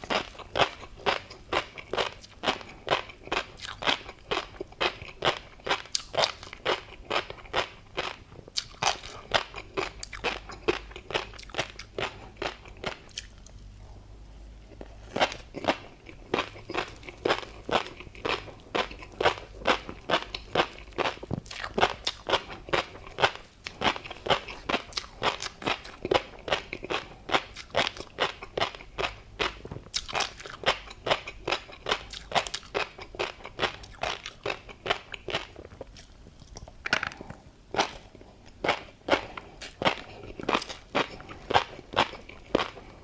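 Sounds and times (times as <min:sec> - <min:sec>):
crunchy chewing: 0:00.0 - 0:13.8, 0:14.4 - 0:43.0.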